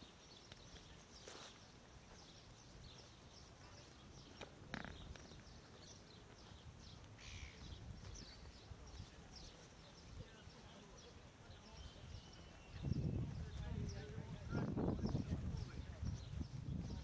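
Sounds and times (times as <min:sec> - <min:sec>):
birds chirping softly: 0:00.0 - 0:17.0.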